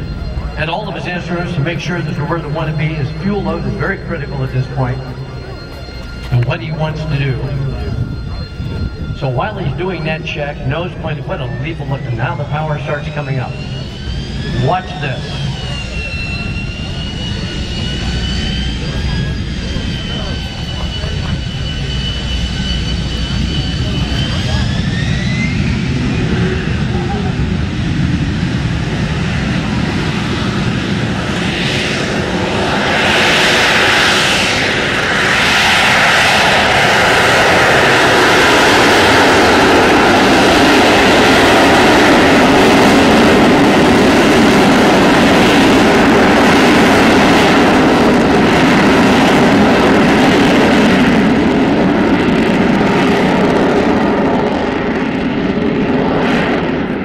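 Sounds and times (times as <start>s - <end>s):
jet engine roar with whine: 0.0s - 57.0s.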